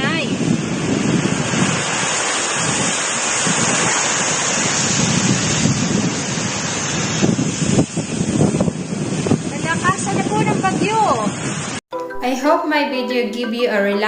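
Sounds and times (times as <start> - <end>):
heavy rain hiss: 0.0 - 11.8
strong wind gusts: 0.0 - 11.8.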